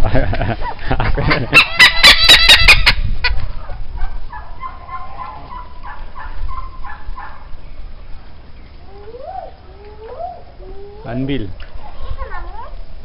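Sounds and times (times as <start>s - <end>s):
large bird calling: 1.6s - 12.6s.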